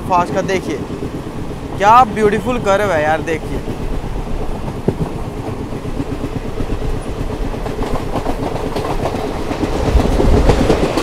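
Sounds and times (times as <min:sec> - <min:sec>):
train rumble: 0:00.0 - 0:11.0
wheels clattering over rails: 0:00.0 - 0:11.0.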